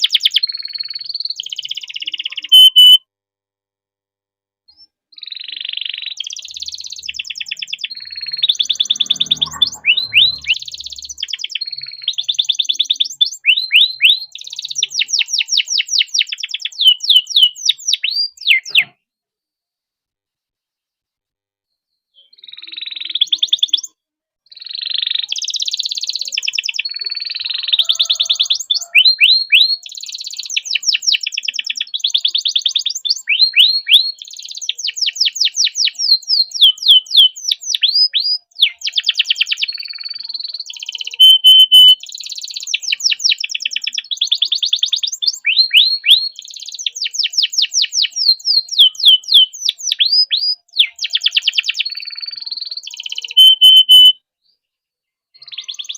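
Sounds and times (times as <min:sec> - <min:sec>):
canary singing trills: 0:00.0 - 0:03.0, 0:04.7 - 0:19.0, 0:22.2 - 0:54.2, 0:55.4 - 0:55.9.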